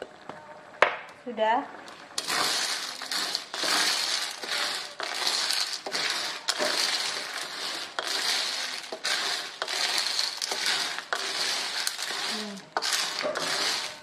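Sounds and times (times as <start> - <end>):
shells scraping against wok: 1.9 - 14.0.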